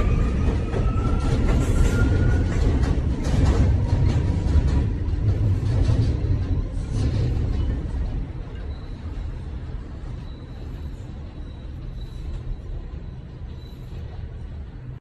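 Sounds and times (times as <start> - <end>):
passenger train rumbling on rails: 0.0 - 15.0.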